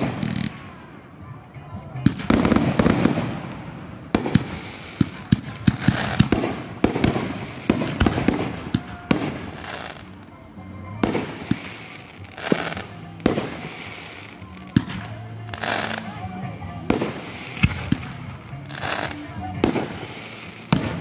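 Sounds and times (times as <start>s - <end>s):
fireworks bangs: 0.0s - 0.8s, 2.0s - 10.2s, 11.0s - 21.0s
hissing crackling firework trails: 0.0s - 1.2s, 1.9s - 21.0s.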